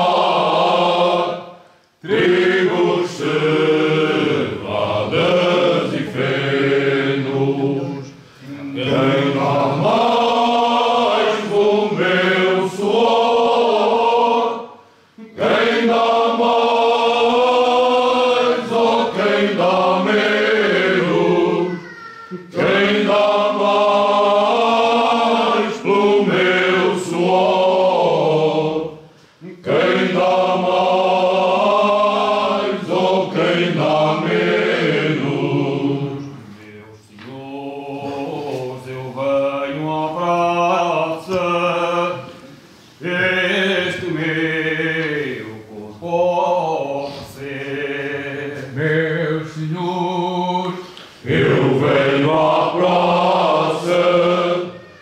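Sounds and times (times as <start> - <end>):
men's choir singing: 0.0 - 21.8, 22.4 - 54.8.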